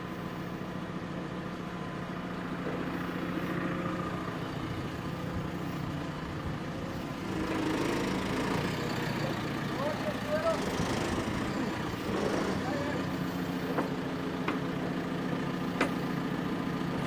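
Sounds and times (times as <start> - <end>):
large diesel engine running: 0.0 - 17.0.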